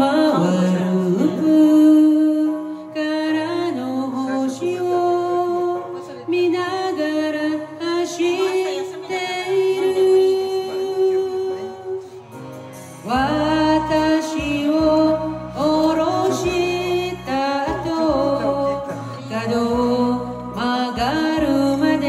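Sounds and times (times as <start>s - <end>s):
woman singing into microphone: 0.0s - 12.2s, 13.0s - 22.0s
music backing track: 0.0s - 22.0s.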